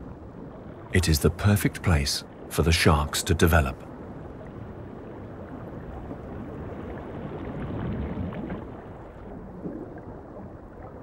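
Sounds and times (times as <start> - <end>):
underwater rumble and hiss: 0.0 - 11.0.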